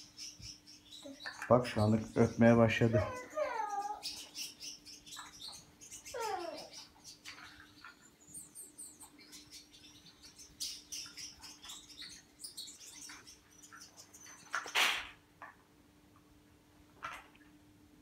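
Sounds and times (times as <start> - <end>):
finches chirping: 0.0 - 14.8.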